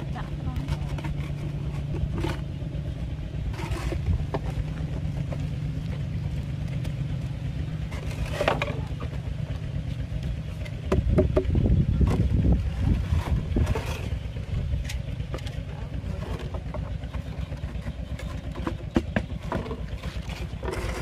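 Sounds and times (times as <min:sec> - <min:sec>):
low motor drone: 0:00.0 - 0:21.0.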